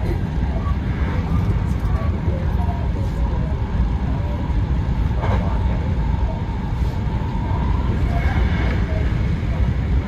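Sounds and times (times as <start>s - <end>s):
electric train rumble: 0.0s - 10.0s.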